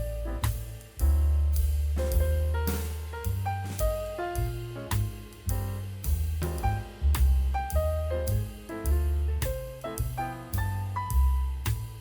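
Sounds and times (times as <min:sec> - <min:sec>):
piano melody with bass and drums: 0:00.0 - 0:12.0.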